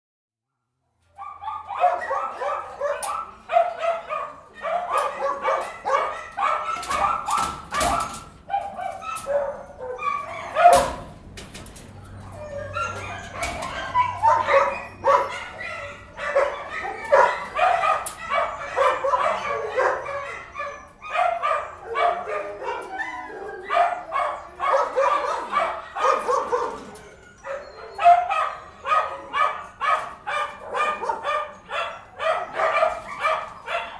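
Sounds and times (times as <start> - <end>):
dogs yipping and whimpering: 1.2 - 11.1, 12.0 - 33.9
many dogs barking: 1.2 - 33.9.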